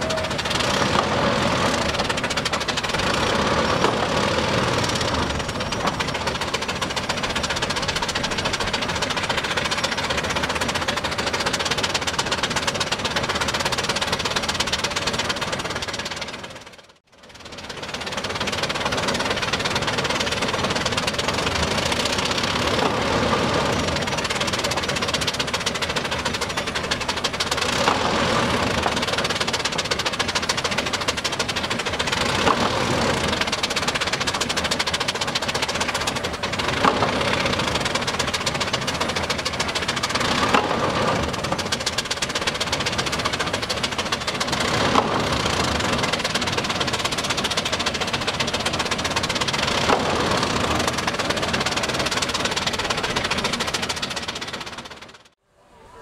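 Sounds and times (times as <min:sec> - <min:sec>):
steam engine running: 0:00.0 - 0:55.4.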